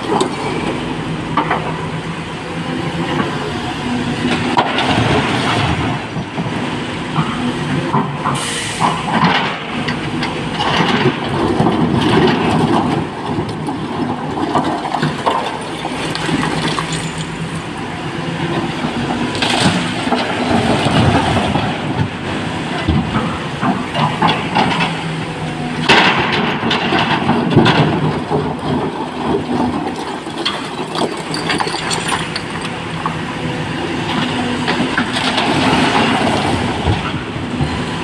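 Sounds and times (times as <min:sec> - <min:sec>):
excavator diesel engine under load: 0:00.0 - 0:38.0.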